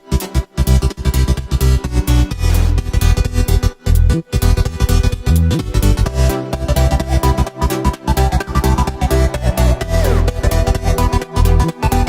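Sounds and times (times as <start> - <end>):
electronic dance music beat: 0.0 - 12.0.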